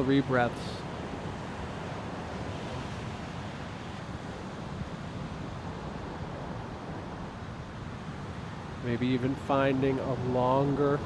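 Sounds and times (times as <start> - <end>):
ocean surf washing: 0.0 - 11.0
wind noise on microphone: 0.0 - 11.0.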